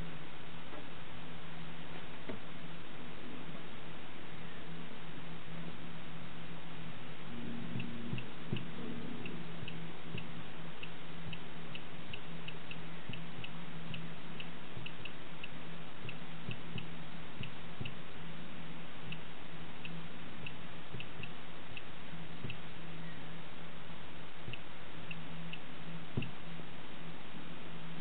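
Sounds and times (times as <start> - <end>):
low hum: 0.0 - 28.0
steady hiss: 0.0 - 28.0.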